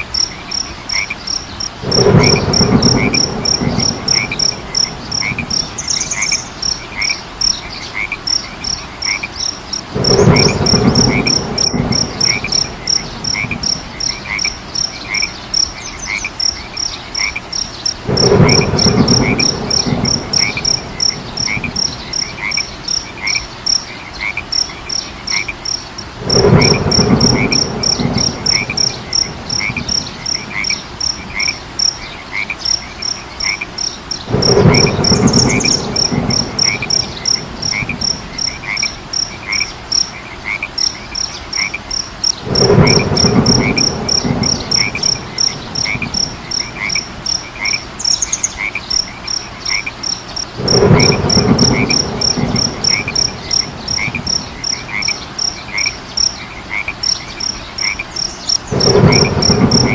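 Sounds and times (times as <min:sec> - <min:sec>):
frogs croaking: 0:00.0 - 0:59.9
insects chirping: 0:00.0 - 0:59.9.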